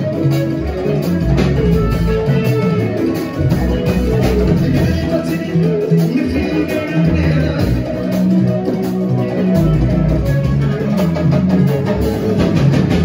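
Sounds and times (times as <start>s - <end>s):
live band playing dance music: 0.0s - 13.0s
plucked electric guitar: 0.0s - 13.0s.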